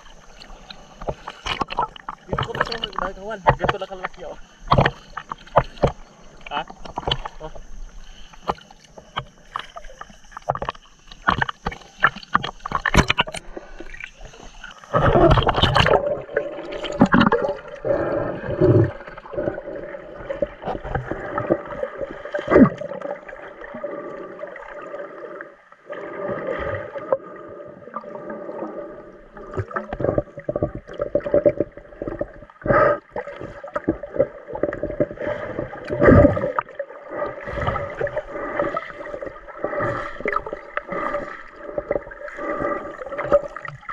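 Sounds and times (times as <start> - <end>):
underwater bubbling: 0.0 - 43.9
water splashing: 0.0 - 43.9.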